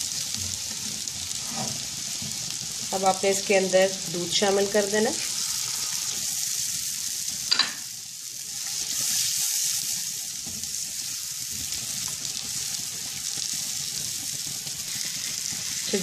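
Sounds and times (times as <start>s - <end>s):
milk sizzling in a pan: 0.0s - 16.0s.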